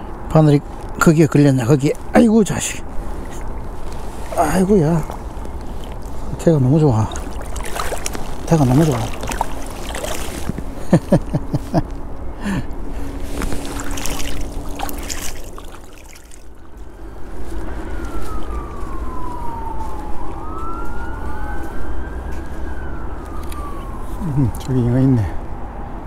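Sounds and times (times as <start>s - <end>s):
steady low rumble: 0.0s - 22.1s
distant siren wailing: 0.8s - 10.9s, 12.8s - 26.0s.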